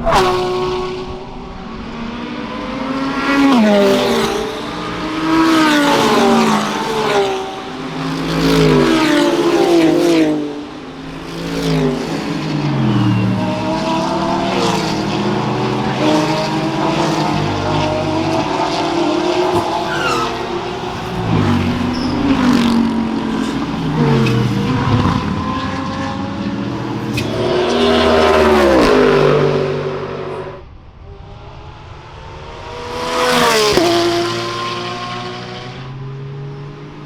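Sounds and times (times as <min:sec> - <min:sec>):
race car engines passing: 0:00.0 - 0:37.0.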